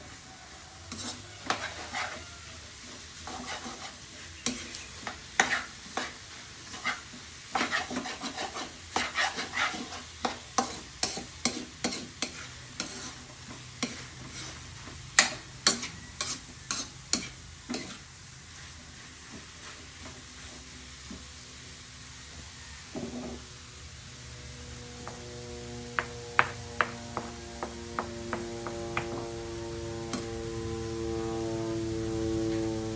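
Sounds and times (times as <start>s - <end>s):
food sizzling in wok: 0.0s - 27.8s
spatula scraping metal wok: 0.8s - 21.4s, 22.8s - 31.2s.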